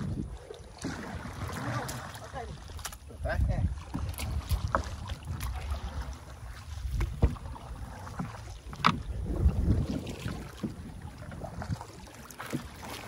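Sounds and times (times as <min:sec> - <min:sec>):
wind rumble on microphone: 0:00.0 - 0:12.7.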